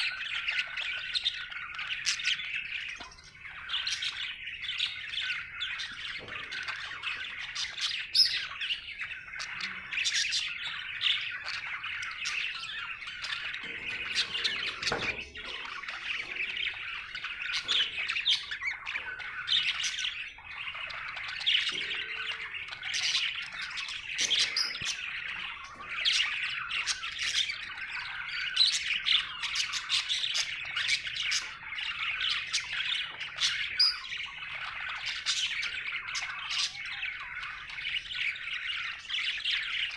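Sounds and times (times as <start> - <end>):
budgerigar chirping and chattering: 0.0 - 39.9.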